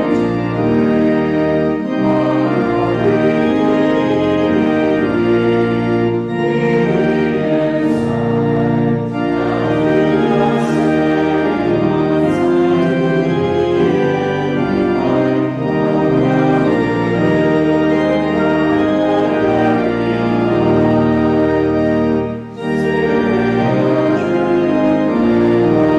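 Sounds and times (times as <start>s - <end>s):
church organ chords: 0.0s - 25.9s.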